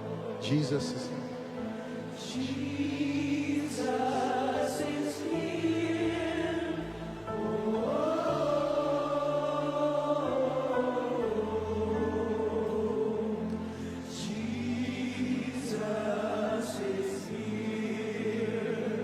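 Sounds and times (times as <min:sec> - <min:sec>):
choir singing gospel: 0:00.0 - 0:19.0.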